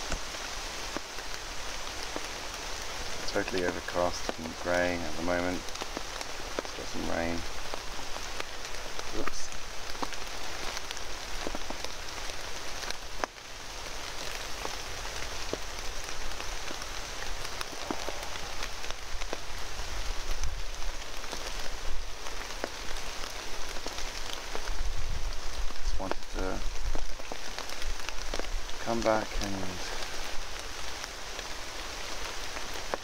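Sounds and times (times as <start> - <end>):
raindrops ticking: 0.0 - 33.0
steady rain falling: 0.0 - 33.0.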